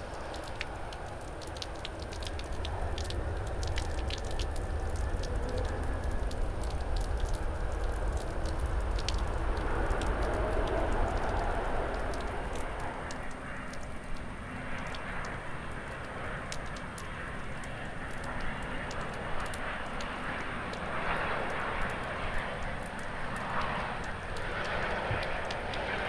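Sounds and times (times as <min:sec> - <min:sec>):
airplane engines landing: 0:00.0 - 0:26.0
dripping water ticks: 0:00.0 - 0:26.0
rain hiss: 0:00.0 - 0:26.0.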